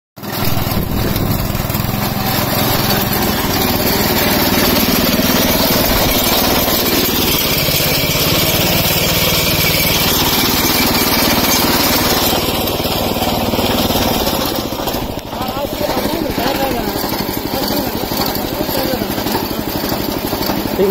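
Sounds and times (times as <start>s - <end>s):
small engine running: 0.2s - 20.9s.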